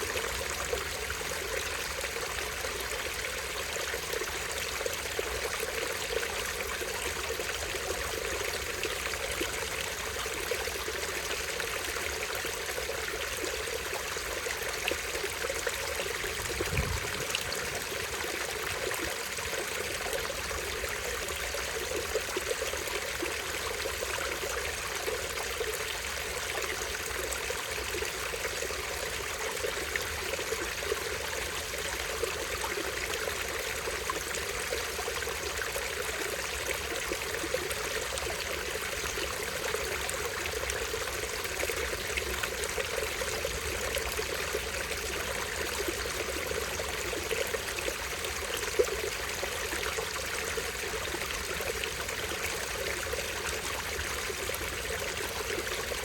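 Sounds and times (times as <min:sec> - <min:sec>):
stream over small waterfall: 0:00.0 - 0:56.0.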